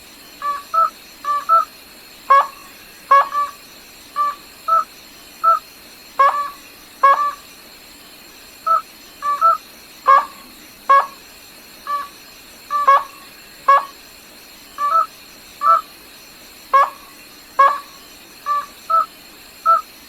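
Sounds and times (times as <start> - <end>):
rail bird nasal calls: 0.4 - 7.5, 8.6 - 11.2, 11.8 - 14.0, 14.7 - 16.0, 16.7 - 19.9.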